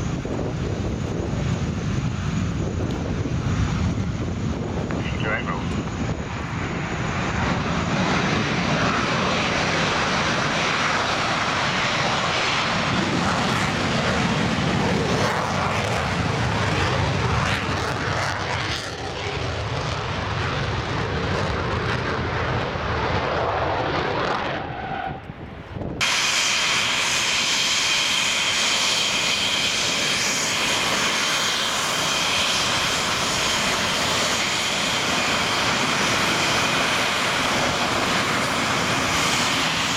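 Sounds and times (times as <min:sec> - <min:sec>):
high-pitched jet engine whine: 0:00.0 - 0:39.9
loud jet engine noise: 0:00.0 - 0:39.9.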